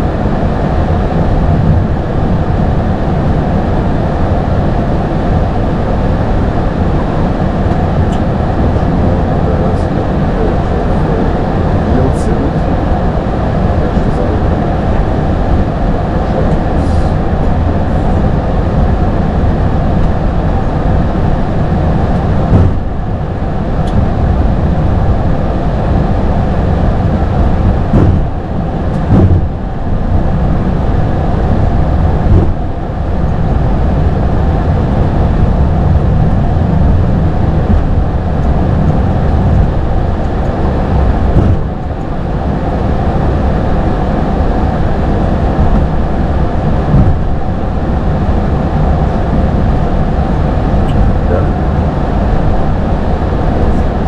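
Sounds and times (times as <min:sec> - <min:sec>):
airplane engine rumble: 0:00.0 - 0:54.0.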